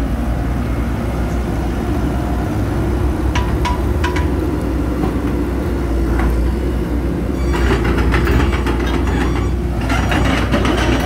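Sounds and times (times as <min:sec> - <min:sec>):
excavator diesel engine idling: 0:00.0 - 0:11.0.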